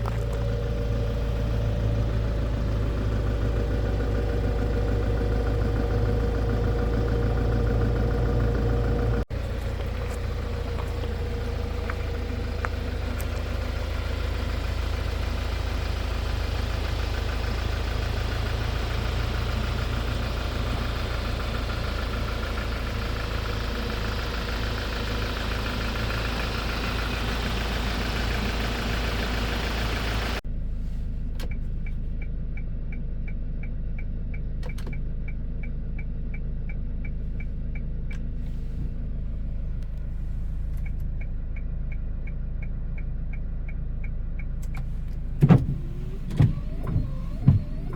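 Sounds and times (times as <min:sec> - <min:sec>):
truck engine idling: 0:00.0 - 0:30.4, 0:36.2 - 0:47.9.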